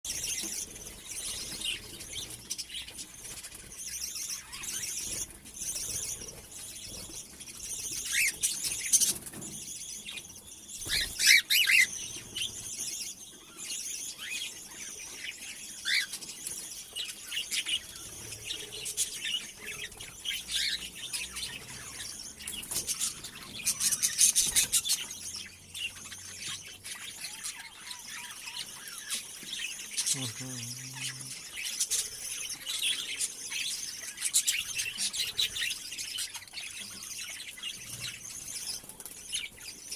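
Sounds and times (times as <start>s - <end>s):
cockatiels chirping: 0.1s - 39.9s.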